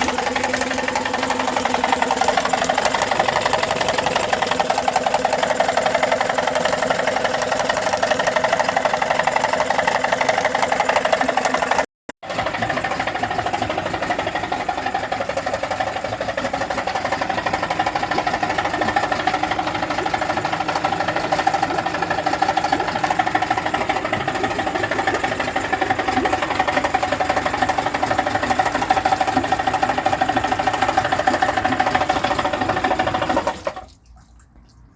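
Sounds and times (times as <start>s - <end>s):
outboard motor knocking clatter: 0.0s - 34.0s.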